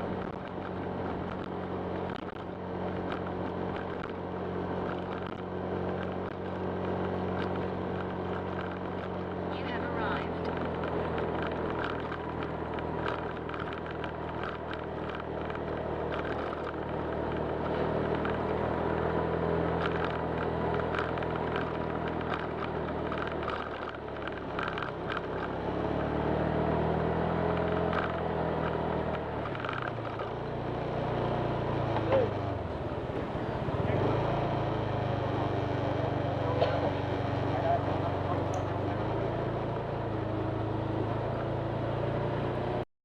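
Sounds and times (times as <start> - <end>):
scooter engine running: 0.0 - 42.8
road and wind noise: 0.0 - 42.9.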